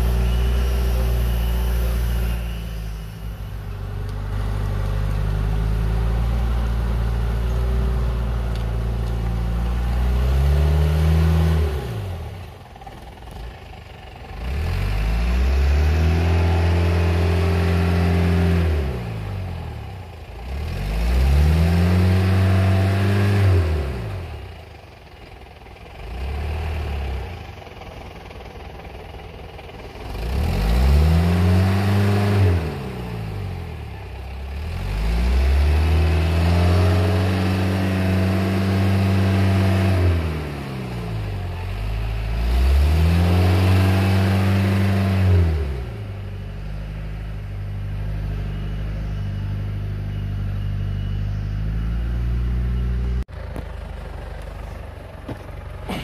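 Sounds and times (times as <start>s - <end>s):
car engine revving: 0.0s - 24.6s, 30.0s - 56.0s.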